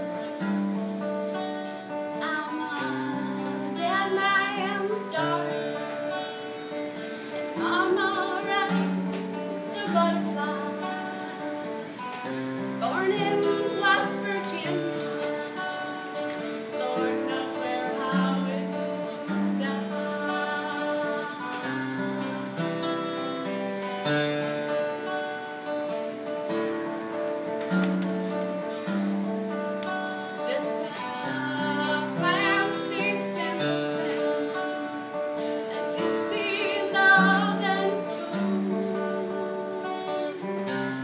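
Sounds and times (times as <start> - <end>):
woman singing: 0.0 - 22.6, 28.4 - 41.0
strummed acoustic guitar: 0.0 - 41.0.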